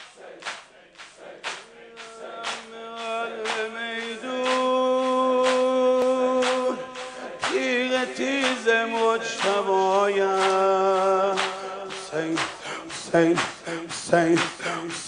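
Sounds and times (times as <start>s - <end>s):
sharp rhythmic strikes: 0.0s - 15.0s
man singing a lament: 1.7s - 15.0s.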